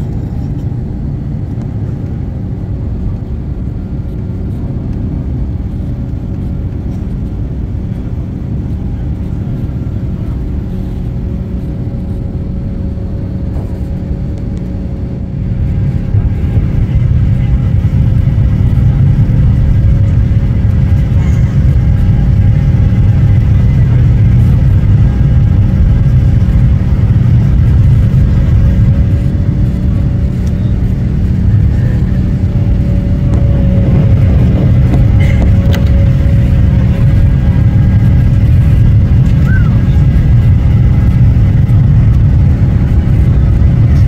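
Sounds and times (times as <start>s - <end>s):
faint steady hums: 0.0s - 44.0s
jet engines rumbling: 0.0s - 44.0s.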